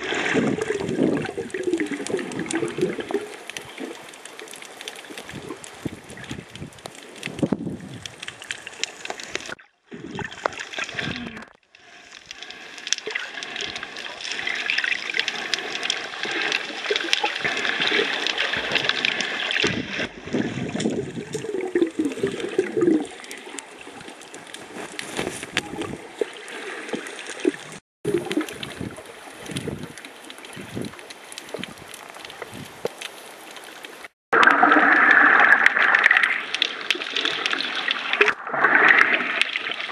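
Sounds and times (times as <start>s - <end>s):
water gurgling and sloshing: 0.0s - 39.9s
small crackling clicks: 0.6s - 9.6s, 10.4s - 20.1s, 20.8s - 34.1s.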